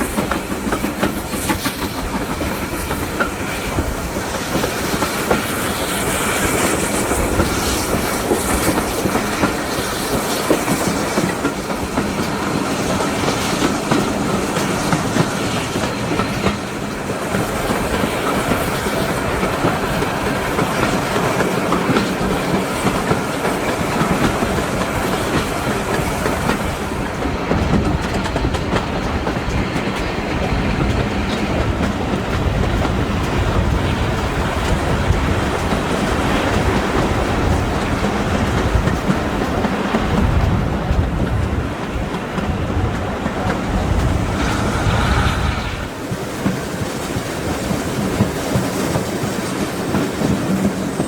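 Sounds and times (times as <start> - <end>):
steam train running: 0.0 - 51.0
wheels clicking over rail joints: 0.0 - 51.0.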